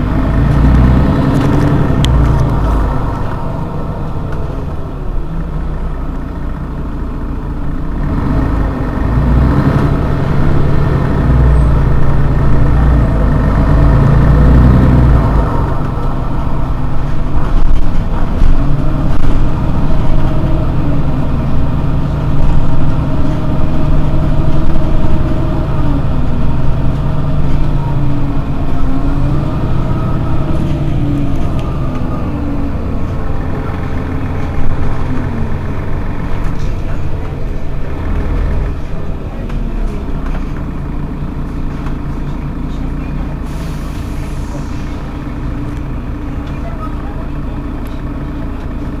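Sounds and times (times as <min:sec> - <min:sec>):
bus engine idling rumble: 0:00.0 - 0:49.0.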